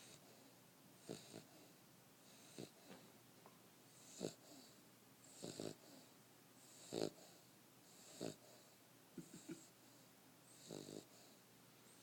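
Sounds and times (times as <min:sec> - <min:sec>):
puppy snoring: 0:00.0 - 0:03.0, 0:03.9 - 0:09.7, 0:10.4 - 0:12.0.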